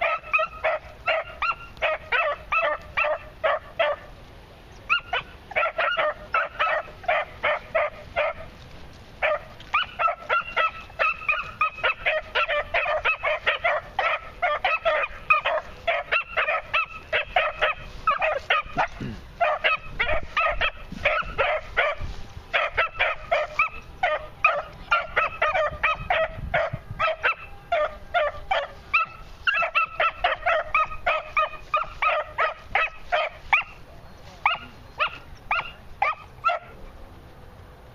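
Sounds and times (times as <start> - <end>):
puppies yelping: 0.0 - 4.0, 4.8 - 8.5, 9.2 - 33.8, 34.4 - 36.8.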